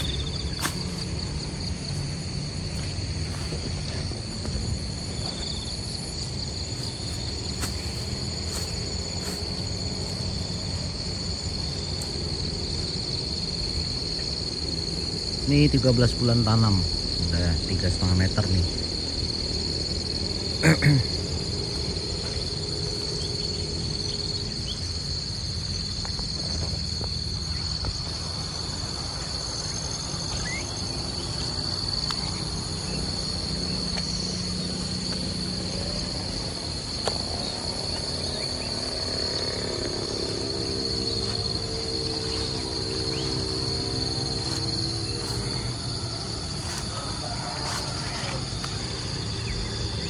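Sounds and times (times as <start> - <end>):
insect chorus drone: 0.0 - 50.0
low multi-tone hum: 0.0 - 50.0.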